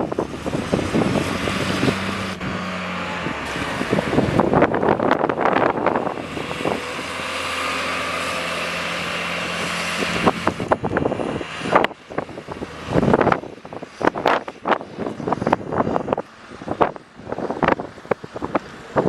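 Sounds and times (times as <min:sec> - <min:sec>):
diesel engine running hard: 0:00.0 - 0:19.0.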